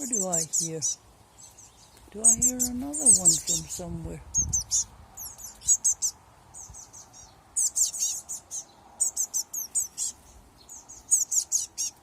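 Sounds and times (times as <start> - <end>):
fledglings chirping: 0.0 - 12.0.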